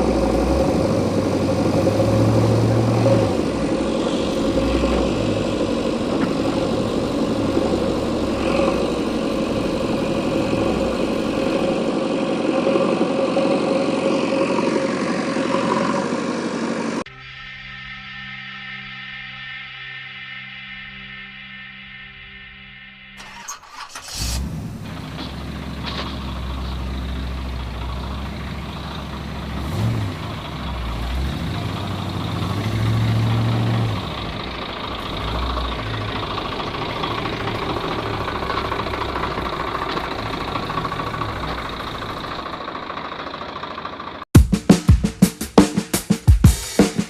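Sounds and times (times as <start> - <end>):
engine idling and revving: 0.0 - 17.1, 23.2 - 44.4.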